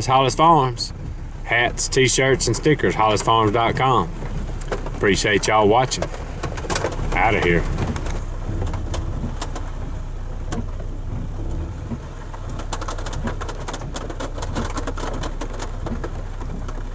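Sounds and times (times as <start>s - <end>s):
low steady hum: 0.0s - 16.9s
rain pattering on a truck: 0.0s - 16.9s.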